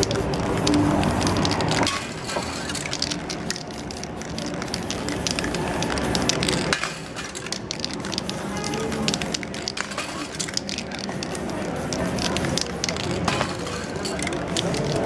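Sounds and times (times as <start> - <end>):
small sharp clicks and crackles: 0.0 - 15.0
spray paint cans hissing: 0.0 - 15.0.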